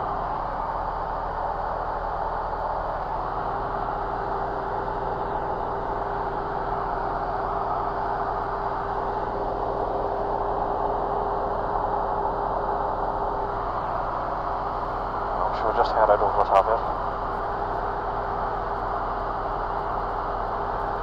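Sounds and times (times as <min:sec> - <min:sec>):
light aircraft engine droning: 0:00.0 - 0:21.0.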